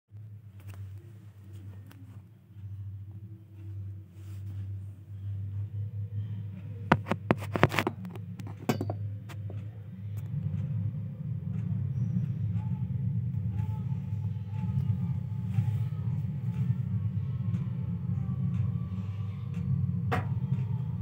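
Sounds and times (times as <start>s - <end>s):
low rumble: 0.2s - 21.0s.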